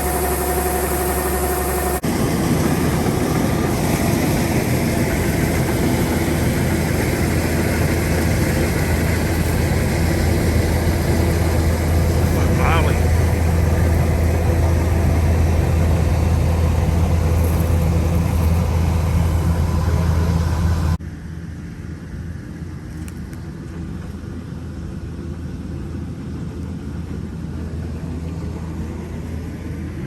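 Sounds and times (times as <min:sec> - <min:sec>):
combine harvester drone: 0:00.0 - 0:30.0.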